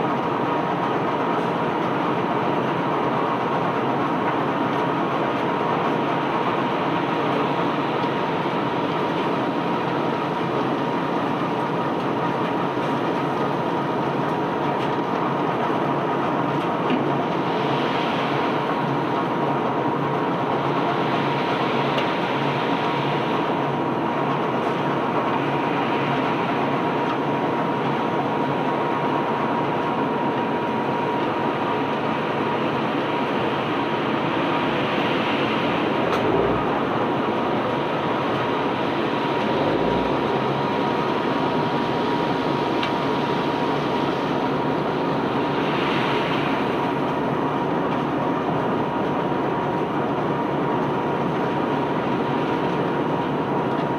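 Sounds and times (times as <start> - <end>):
conveyor belt rumbling and rattling: 0.0 - 53.9
steady hum: 0.0 - 53.9.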